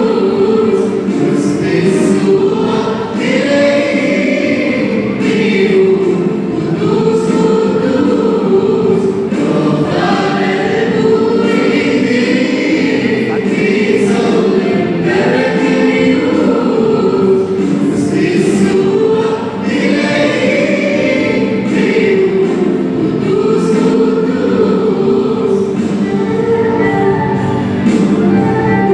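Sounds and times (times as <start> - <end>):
mixed choir singing a hymn: 0.0 - 28.9.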